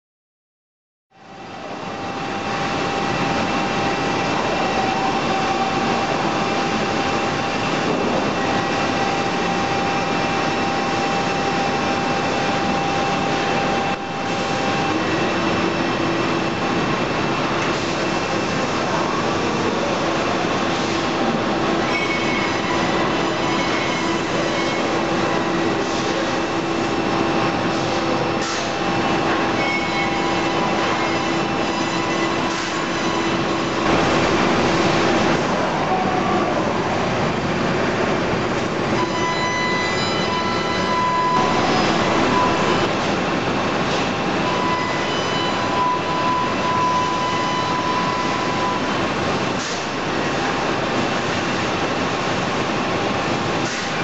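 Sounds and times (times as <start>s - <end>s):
industrial machine noise: 1.1s - 54.0s.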